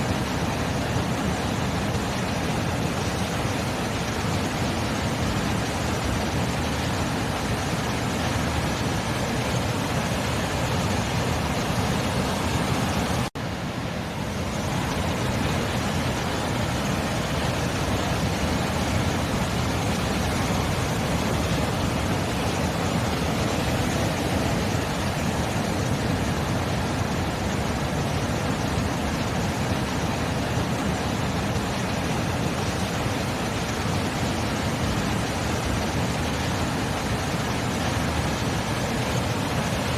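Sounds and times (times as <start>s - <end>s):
sea surf rushing: 0.0s - 39.9s.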